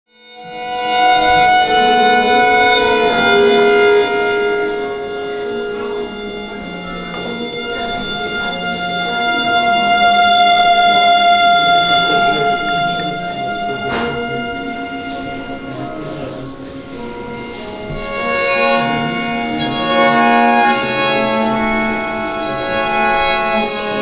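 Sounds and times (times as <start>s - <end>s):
quartet playing held tones: 0.4s - 24.0s.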